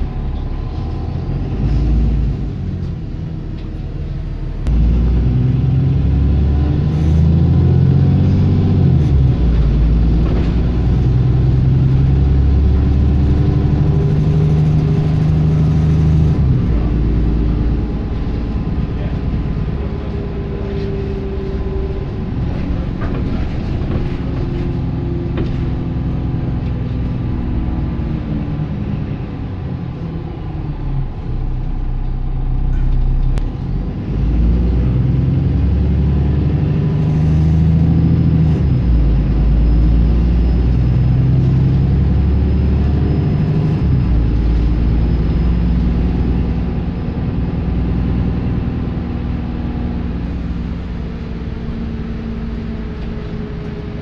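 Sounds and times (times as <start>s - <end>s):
bus engine with exhaust leak: 0.0s - 54.0s.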